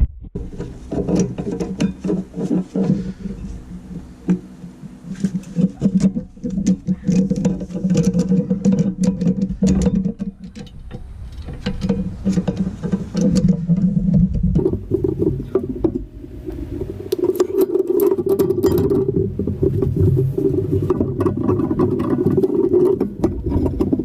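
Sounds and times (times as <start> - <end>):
metallic clicking and scraping: 0.0 - 24.0
steady low hum: 0.0 - 24.0.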